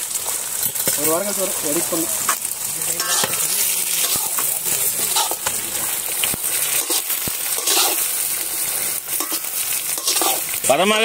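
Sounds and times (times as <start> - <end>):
vegetables sizzling in wok: 0.0 - 11.0.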